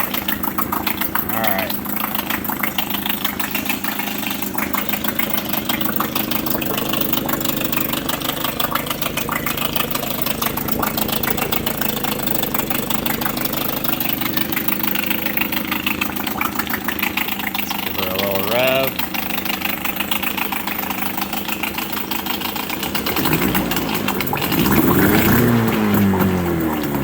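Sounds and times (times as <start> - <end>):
outboard motor idling: 0.0 - 27.0.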